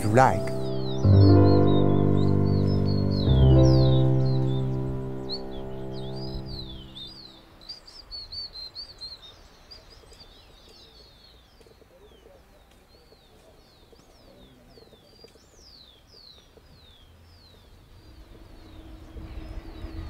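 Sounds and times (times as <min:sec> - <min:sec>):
faint low background noise: 0:00.0 - 0:20.0
small birds chirping: 0:00.0 - 0:20.0.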